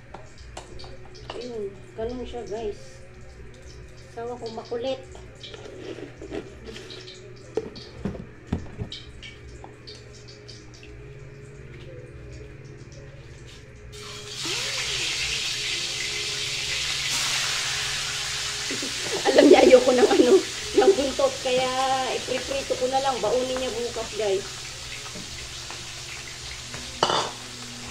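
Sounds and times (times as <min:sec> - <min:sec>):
fish frying in hot oil: 0:00.0 - 0:27.9.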